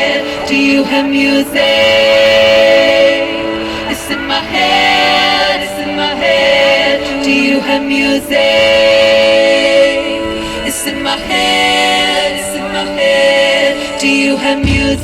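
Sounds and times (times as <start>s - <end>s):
music: 0.0s - 15.0s
voices singing long notes: 0.0s - 15.0s.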